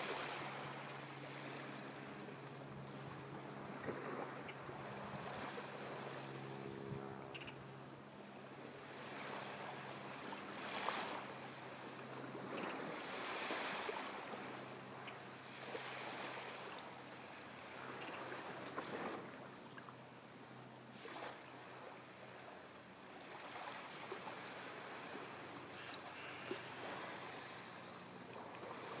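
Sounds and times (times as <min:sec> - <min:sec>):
small waves lapping on beach: 0:00.0 - 0:29.0.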